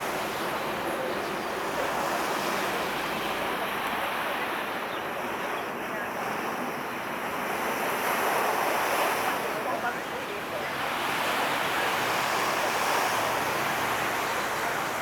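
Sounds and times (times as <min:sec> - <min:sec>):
waves: 0:00.0 - 0:15.0
wind: 0:00.0 - 0:15.0.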